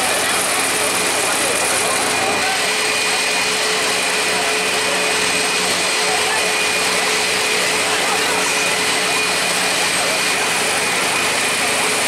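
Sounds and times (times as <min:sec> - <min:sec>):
high steady machine whines: 0:00.0 - 0:12.0
machine running with rushing hiss: 0:00.0 - 0:12.0.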